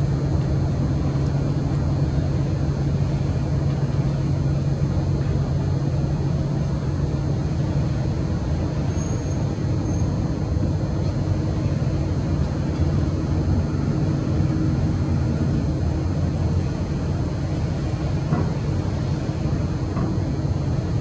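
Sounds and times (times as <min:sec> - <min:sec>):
low engine rumble: 0:00.0 - 0:21.0.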